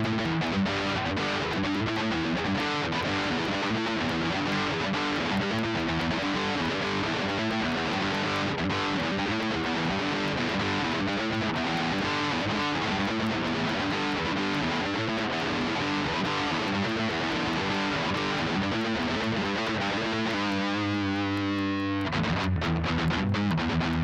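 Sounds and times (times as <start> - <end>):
electric guitar strummed: 0.0 - 24.0.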